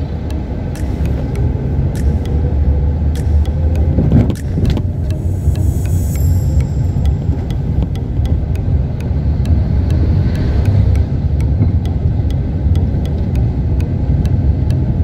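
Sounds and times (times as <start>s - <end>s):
car engine rumble: 0.0s - 15.0s
road noise inside car: 0.0s - 15.0s.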